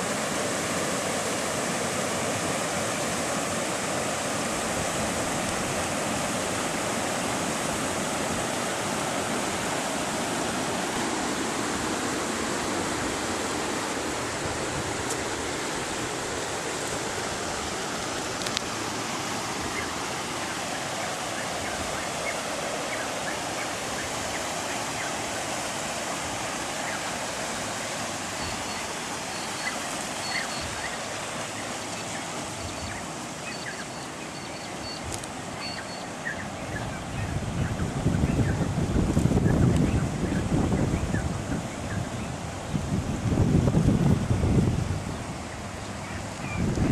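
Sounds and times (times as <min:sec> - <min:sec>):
floodwater rushing: 0:00.0 - 0:46.9.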